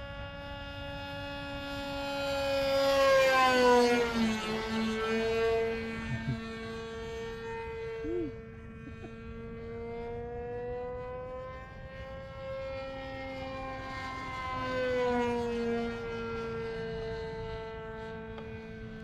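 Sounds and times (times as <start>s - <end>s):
model airplane motor whining: 0.0s - 19.0s.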